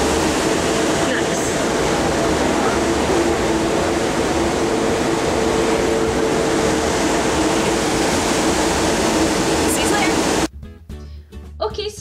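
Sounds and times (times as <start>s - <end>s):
ferry engines droning: 0.0s - 10.5s
wind and water rushing: 0.0s - 10.5s.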